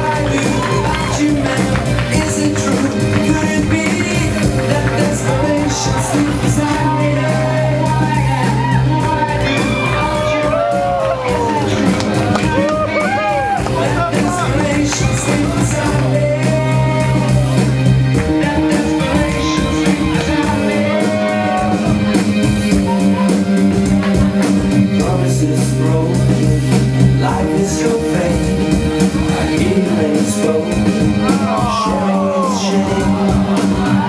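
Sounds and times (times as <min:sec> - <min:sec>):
song with vocals guitar and bass: 0:00.0 - 0:34.0.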